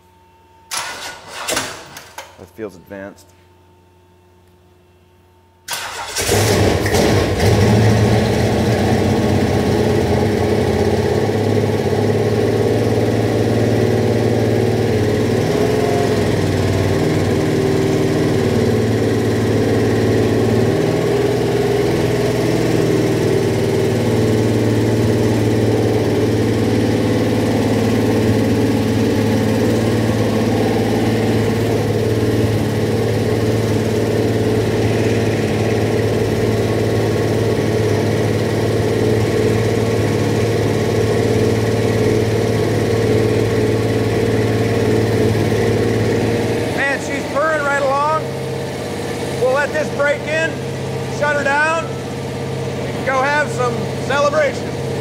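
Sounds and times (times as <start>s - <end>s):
engine idling: 5.7s - 55.0s.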